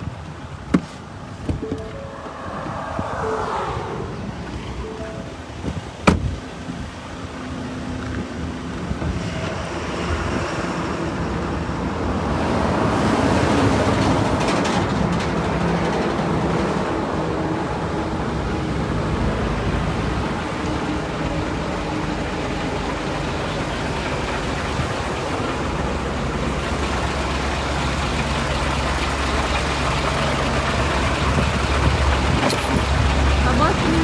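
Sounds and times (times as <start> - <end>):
passing vehicles rushing: 0.7 - 29.0.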